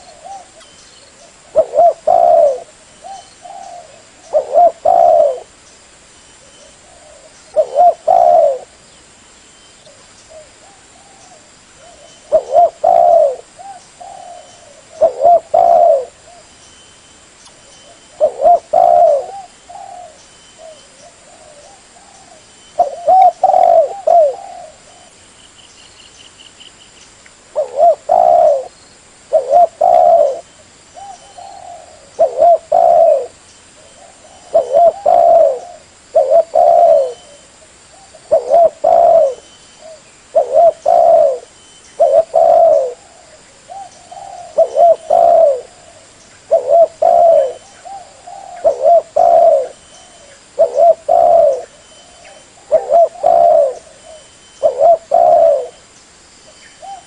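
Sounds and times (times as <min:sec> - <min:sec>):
dove cooing: 0:00.0 - 0:05.6, 0:06.4 - 0:08.8, 0:09.9 - 0:16.5, 0:17.8 - 0:25.2, 0:27.5 - 0:55.8, 0:56.8 - 0:57.0.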